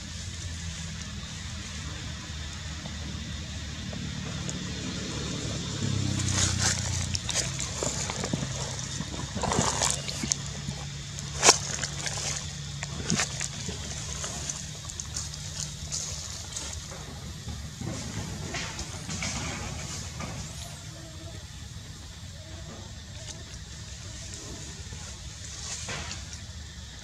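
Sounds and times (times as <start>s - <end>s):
engine humming: 0.0s - 27.0s
rustles: 0.0s - 27.0s.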